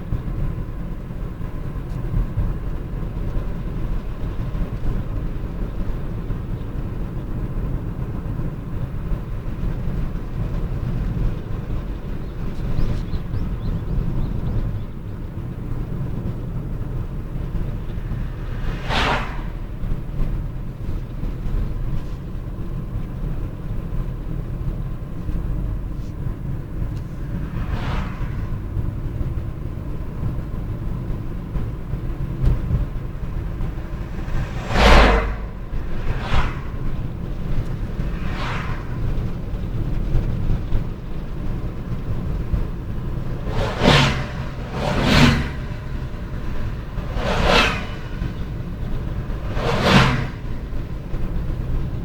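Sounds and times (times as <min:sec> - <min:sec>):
low road rumble: 0:00.0 - 0:52.0
vehicles whooshing past: 0:00.6 - 0:23.8, 0:25.6 - 0:52.0.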